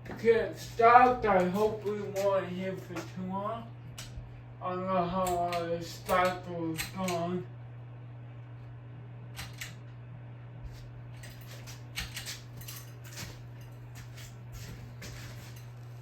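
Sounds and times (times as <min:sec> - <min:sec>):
ceiling fan motor humming: 0:00.0 - 0:16.0.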